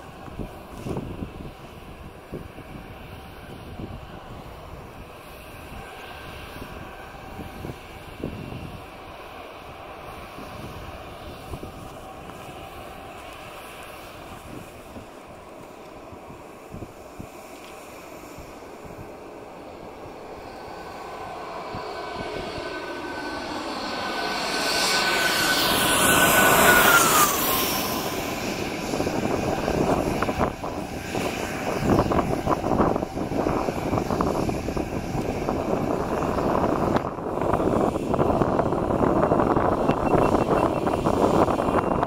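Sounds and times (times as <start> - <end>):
jet engine whine and roar: 0.0 - 42.0.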